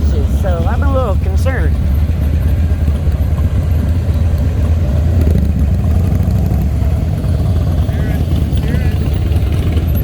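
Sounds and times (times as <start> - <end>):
motorcycles rumbling by: 0.0 - 10.0.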